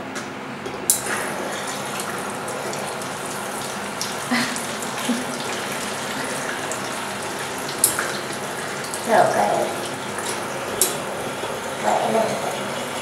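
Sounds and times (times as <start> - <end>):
tap water running into bottle: 0.9 - 13.0.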